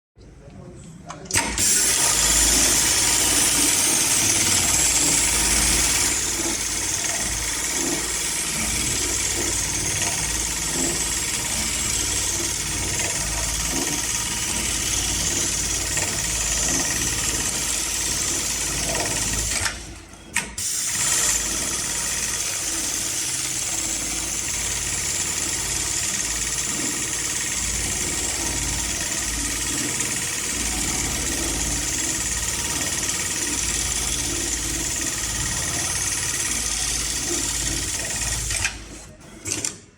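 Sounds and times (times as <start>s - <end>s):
sewing machine running: 1.3s - 39.9s.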